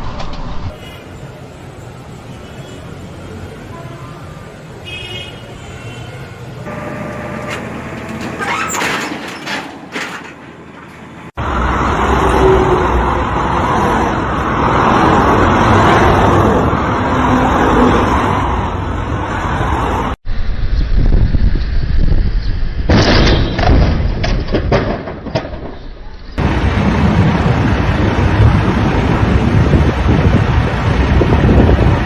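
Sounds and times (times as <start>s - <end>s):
vehicle and road noise: 0.0s - 32.0s.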